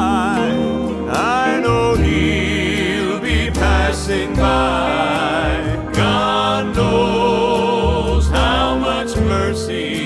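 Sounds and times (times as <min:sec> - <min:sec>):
country gospel song: 0:00.0 - 0:10.0.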